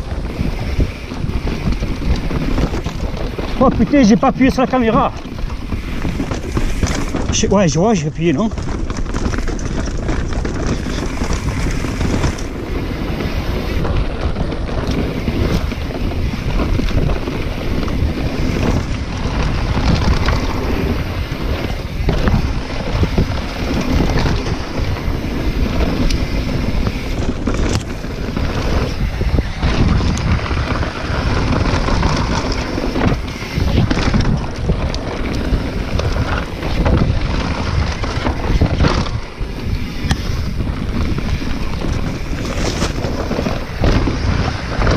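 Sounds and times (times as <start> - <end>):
bike rattling over stones: 0.0 - 44.9
tyres rumbling on dirt: 0.0 - 44.9
wind buffeting microphone: 0.0 - 44.9.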